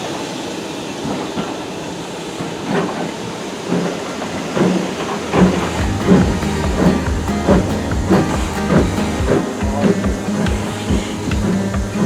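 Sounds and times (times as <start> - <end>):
train rumbling: 0.0 - 12.0
wheels clacking over rail joints: 0.0 - 12.0.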